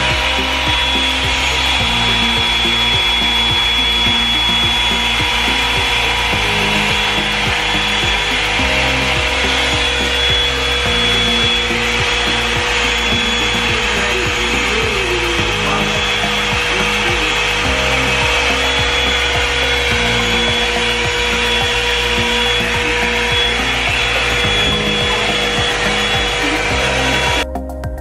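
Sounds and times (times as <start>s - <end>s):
background music: 0.0s - 28.0s
hair dryer brush motor whine: 0.0s - 28.0s.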